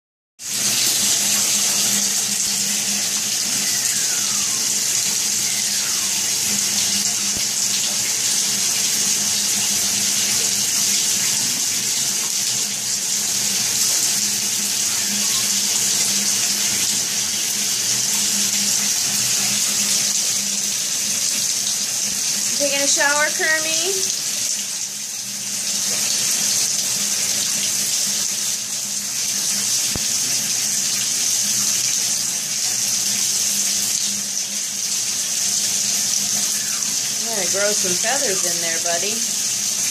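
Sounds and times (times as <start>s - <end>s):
shower spray hissing on tiles: 0.4s - 39.9s.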